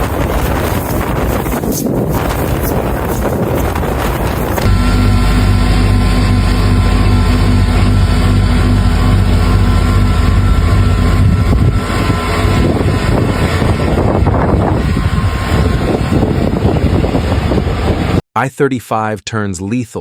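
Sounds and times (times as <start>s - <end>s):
low engine drone: 0.0s - 18.2s
wind noise: 0.0s - 18.2s.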